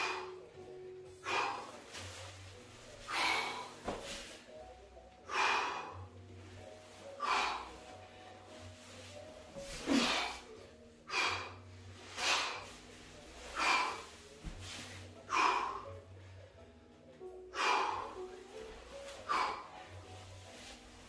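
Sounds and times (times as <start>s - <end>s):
man breathing heavily: 0.0s - 4.6s, 5.2s - 16.8s, 17.5s - 21.0s.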